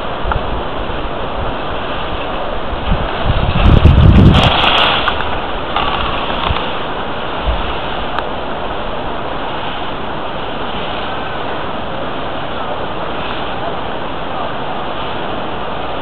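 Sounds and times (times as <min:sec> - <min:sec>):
skis sliding over snow: 0:00.0 - 0:16.0
wind on microphone: 0:00.0 - 0:16.0.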